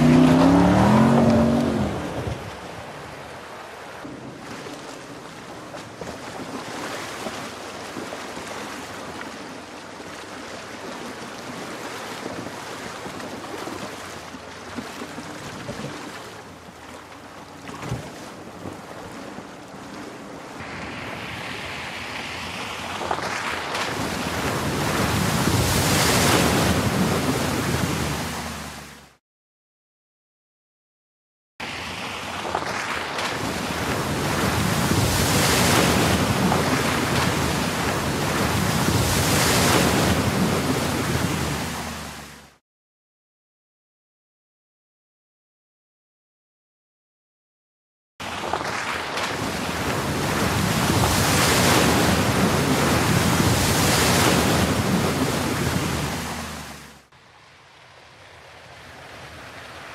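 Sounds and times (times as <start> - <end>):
car splashing through water: 0.0 - 29.2, 31.6 - 42.6, 48.2 - 59.9
rushing water and wind: 0.0 - 29.2, 31.6 - 42.6, 48.2 - 59.9.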